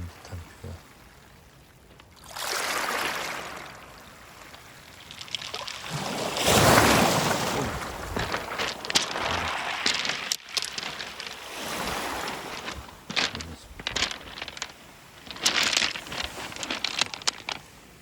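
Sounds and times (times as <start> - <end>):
waves washing over pebbles: 1.9 - 18.0
wet pebbles clattering: 1.9 - 18.0.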